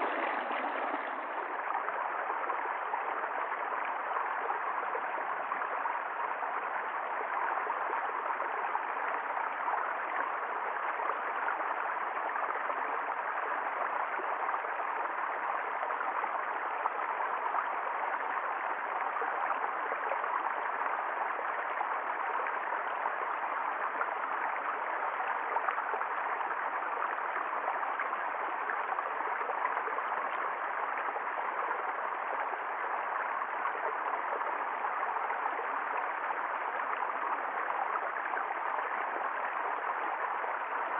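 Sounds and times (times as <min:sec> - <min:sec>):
rushing running water: 0:00.0 - 0:40.9.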